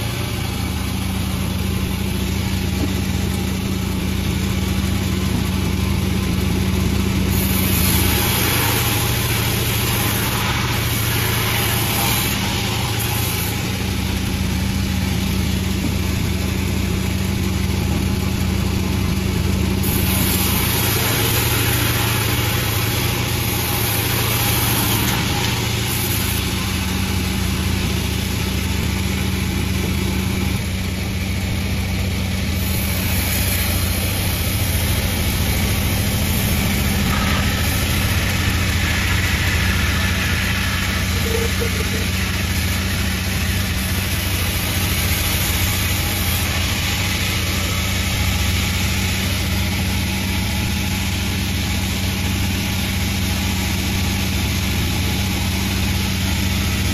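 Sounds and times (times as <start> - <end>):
sawmill motor humming: 0.0 - 56.9
high hiss: 6.8 - 17.3, 19.6 - 56.9.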